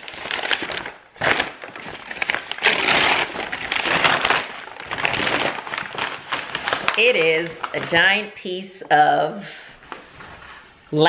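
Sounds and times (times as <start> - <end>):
paper bag crinkling: 0.0 - 8.9.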